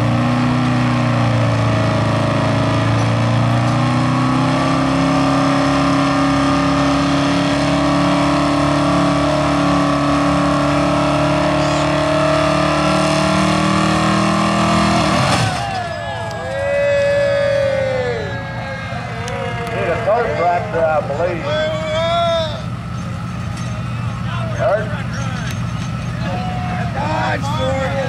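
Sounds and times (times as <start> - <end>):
truck engine revving under load: 0.0 - 28.0.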